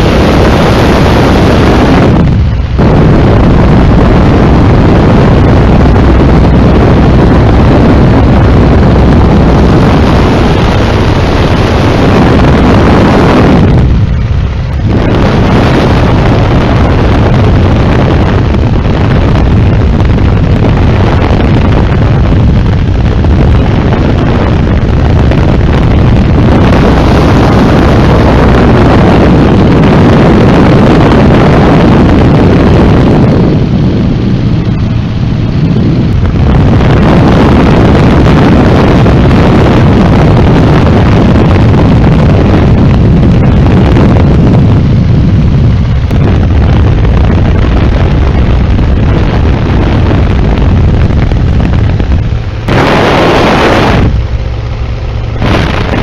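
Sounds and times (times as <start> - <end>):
propeller plane engine running: 0.0 - 56.0
wind buffeting microphone: 0.0 - 56.0.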